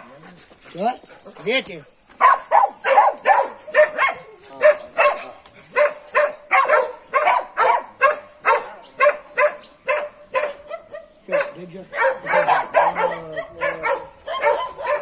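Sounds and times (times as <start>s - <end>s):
dog barking: 2.2s - 15.0s.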